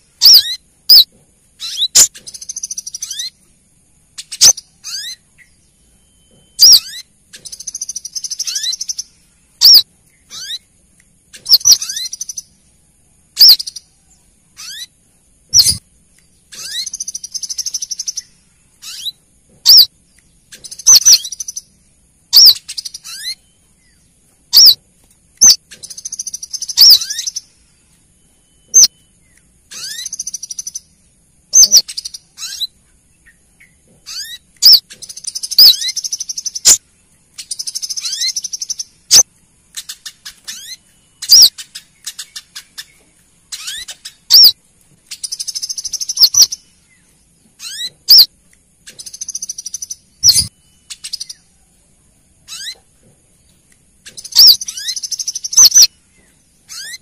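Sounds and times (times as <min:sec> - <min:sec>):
bird twittering chatters: 0:00.0 - 0:03.5, 0:04.1 - 0:10.7, 0:11.3 - 0:12.6, 0:13.4 - 0:14.0, 0:14.6 - 0:14.9, 0:15.5 - 0:24.8, 0:25.4 - 0:27.8, 0:28.6 - 0:51.5, 0:52.4 - 0:52.9, 0:54.0 - 0:57.0
bird calls: 0:00.0 - 0:57.0.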